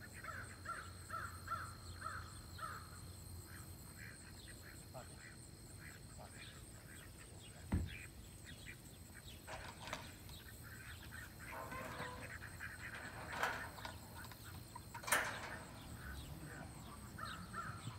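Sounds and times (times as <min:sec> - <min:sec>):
harsh bird calls: 0:00.0 - 0:17.9.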